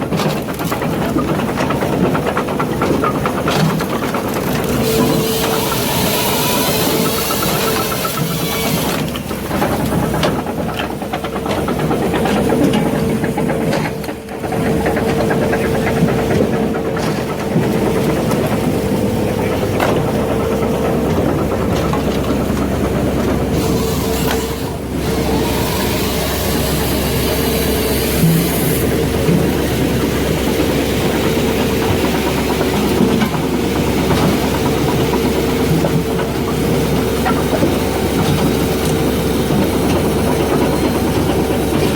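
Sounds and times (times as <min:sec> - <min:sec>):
diesel engine whining: 0:00.0 - 0:41.9
machine clattering wood: 0:00.0 - 0:41.9.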